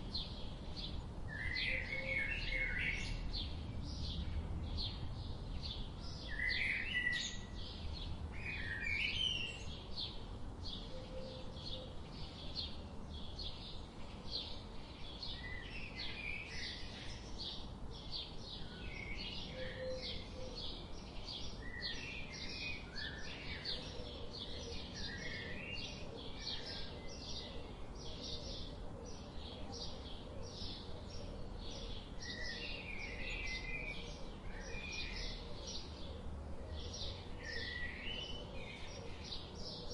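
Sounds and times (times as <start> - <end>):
lower warbling birdsong: 0.0 - 39.9.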